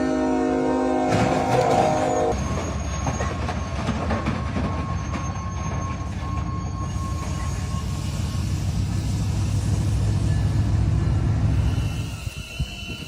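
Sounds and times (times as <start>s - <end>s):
train wheels clattering on rails: 1.0s - 13.0s
high wheel squeal: 1.5s - 13.0s.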